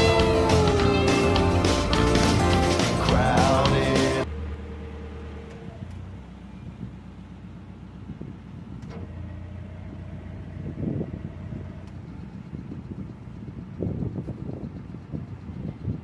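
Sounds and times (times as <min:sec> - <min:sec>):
boat diesel engine idling: 0:00.0 - 0:16.0.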